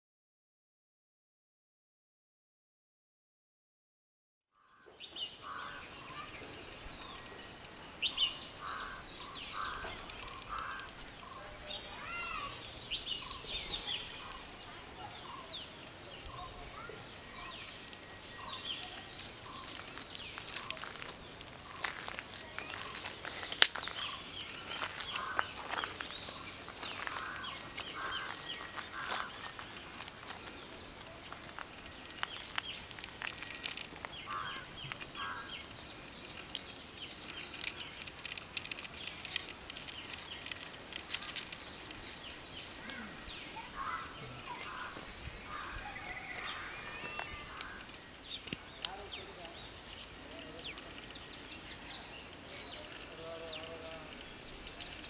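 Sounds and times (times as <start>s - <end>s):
birds chirping: 4.6s - 55.0s.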